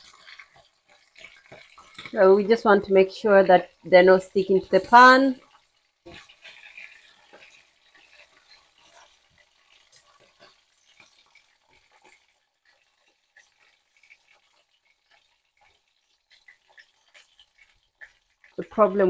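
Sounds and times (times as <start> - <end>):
metal spatula scraping a pan: 0.0 - 2.8, 4.1 - 19.0
fish sizzling in oil: 0.0 - 19.0.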